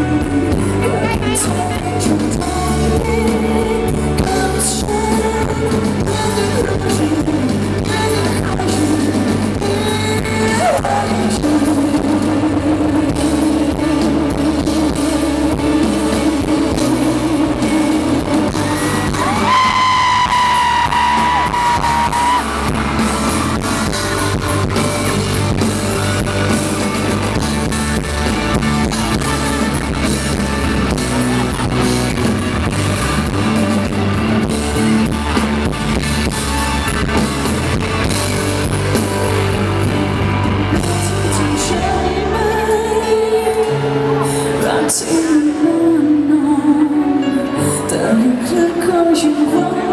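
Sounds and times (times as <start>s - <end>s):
person singing: 0.0s - 35.7s, 38.0s - 49.9s
electric guitar: 0.0s - 49.9s
live pop-rock band playing: 0.0s - 49.9s.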